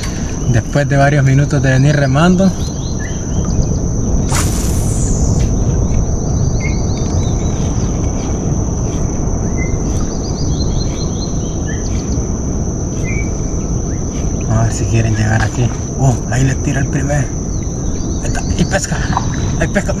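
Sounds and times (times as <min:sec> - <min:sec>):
bird chirping: 0:00.0 - 0:20.0
high insect whine: 0:00.0 - 0:20.0
low rumble: 0:00.0 - 0:20.0.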